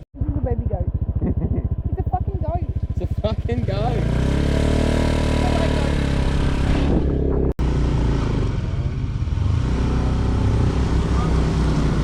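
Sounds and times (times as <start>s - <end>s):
motorbike engine running: 0.0s - 12.0s
wind and road noise: 0.2s - 12.0s.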